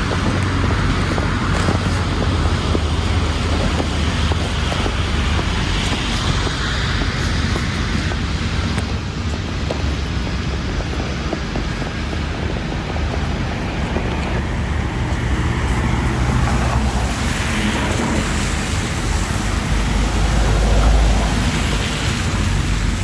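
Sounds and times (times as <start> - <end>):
deep traffic rumble: 0.0 - 23.0
passing vehicles: 0.0 - 23.0.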